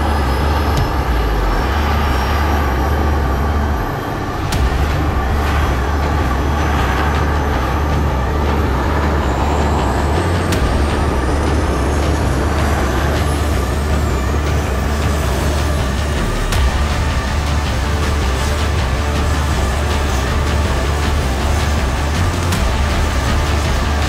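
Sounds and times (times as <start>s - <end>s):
deep rumble: 0.0s - 24.0s
jet engine and airflow rush: 0.0s - 24.0s.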